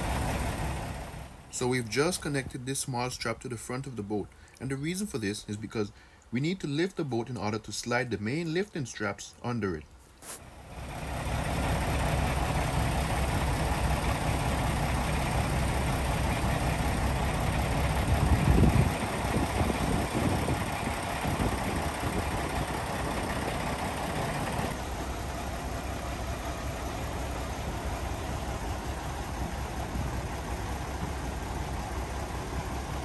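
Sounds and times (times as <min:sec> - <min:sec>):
diesel truck engine running: 0:00.0 - 0:04.0, 0:10.4 - 0:33.0.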